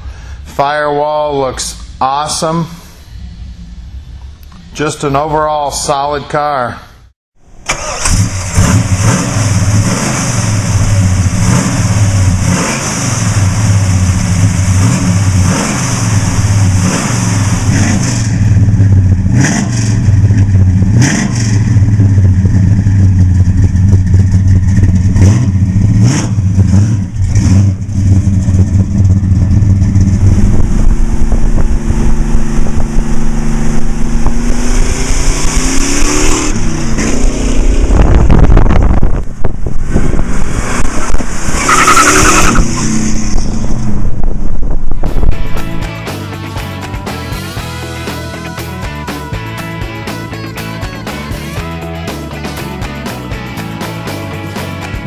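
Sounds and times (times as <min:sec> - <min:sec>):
car engine running: 0:01.6 - 0:06.2, 0:07.7 - 0:55.0.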